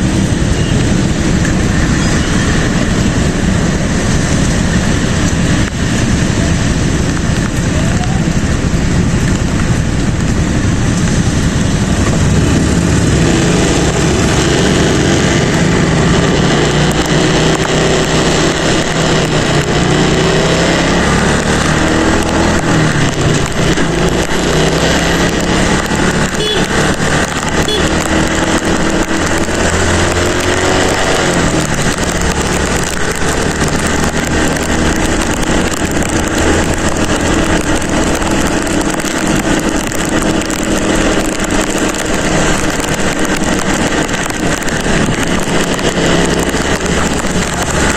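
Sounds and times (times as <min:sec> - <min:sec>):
motorcycle engine running: 0:00.0 - 0:47.9
wind noise: 0:00.0 - 0:47.9.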